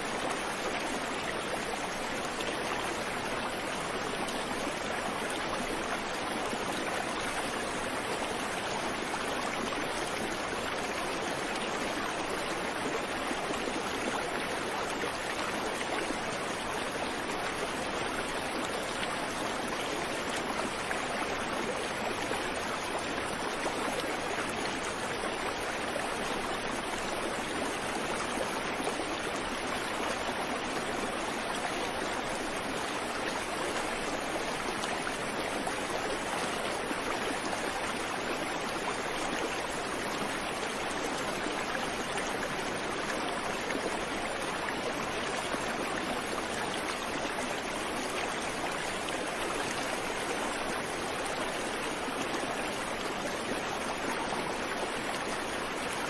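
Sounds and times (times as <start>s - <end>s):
creek running over rocks: 0.0s - 56.0s.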